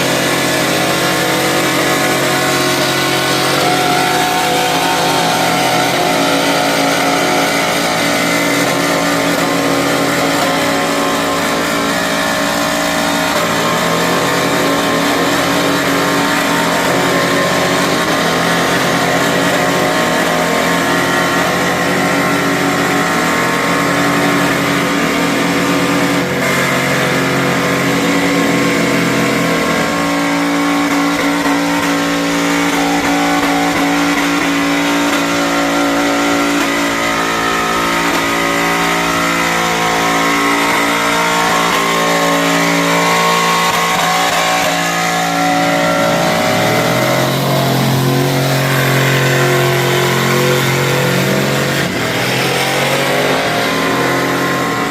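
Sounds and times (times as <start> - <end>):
truck engines revving high: 0.0 - 54.9.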